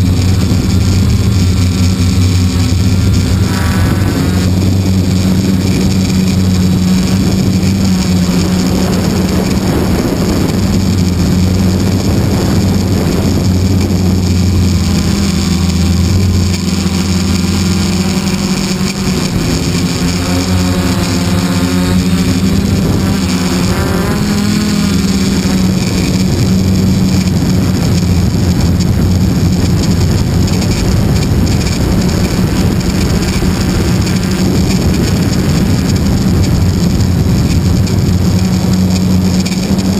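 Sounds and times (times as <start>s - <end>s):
model airplane motor and propeller: 0.0s - 39.9s
wind rushing past microphone: 0.0s - 39.9s.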